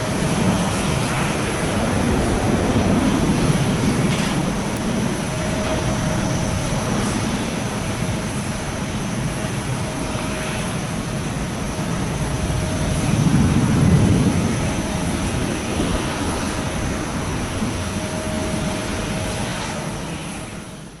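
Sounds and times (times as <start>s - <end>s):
jet engines rumbling at takeoff: 0.0s - 21.0s.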